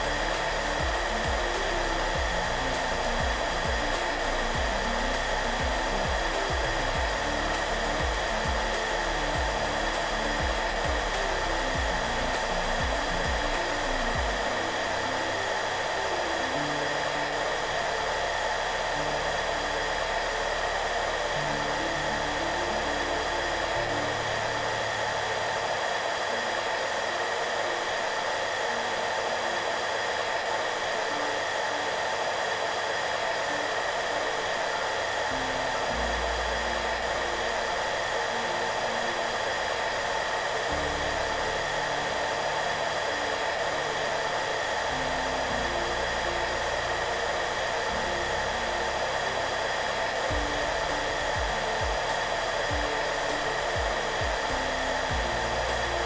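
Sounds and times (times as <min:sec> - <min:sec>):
hair dryer running: 0:00.0 - 0:56.0
soft background music: 0:00.0 - 0:56.0.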